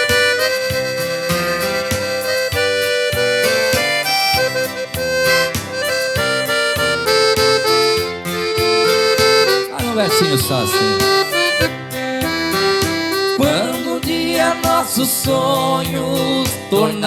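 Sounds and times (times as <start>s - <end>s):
accordion melody: 0.0s - 17.0s
strummed guitar: 0.0s - 17.0s.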